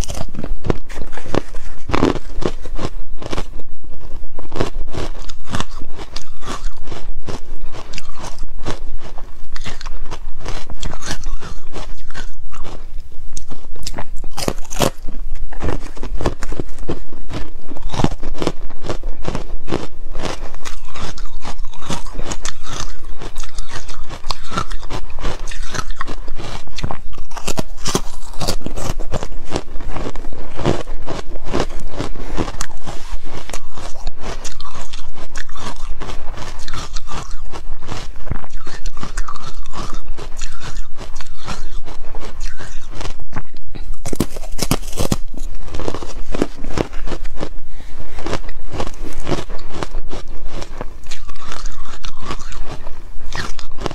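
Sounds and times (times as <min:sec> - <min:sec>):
crunching and chewing ice: 0:00.0 - 0:53.9.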